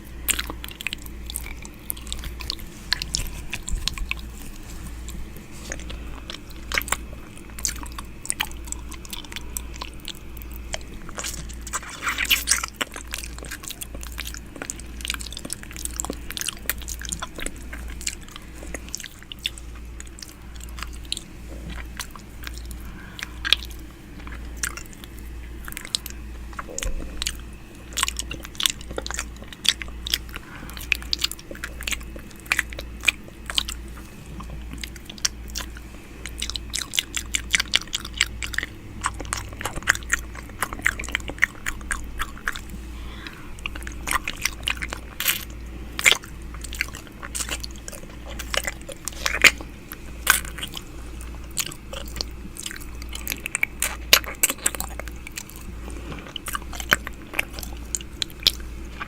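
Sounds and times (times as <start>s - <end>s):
wet mouth sounds: 0.0s - 59.0s.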